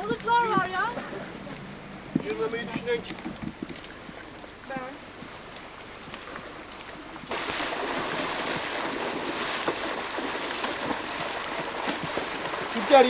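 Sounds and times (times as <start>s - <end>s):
sea water: 0.0s - 13.0s
wind: 0.0s - 13.0s
small splashes and clicks: 2.2s - 13.0s.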